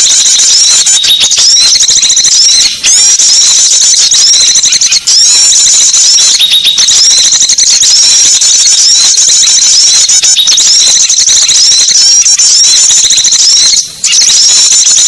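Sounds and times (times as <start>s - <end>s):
songbirds chirping and twittering: 0.0s - 15.0s.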